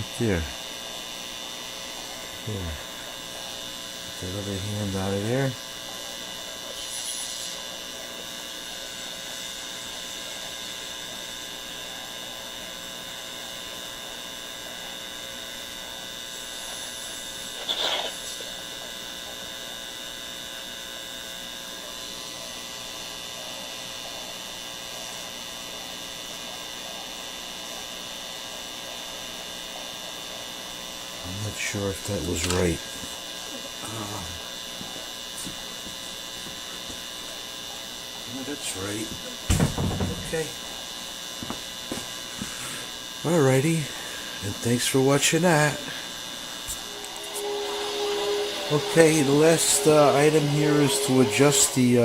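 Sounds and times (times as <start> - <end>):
radio speaker buzzing hum: 0.0 - 52.0.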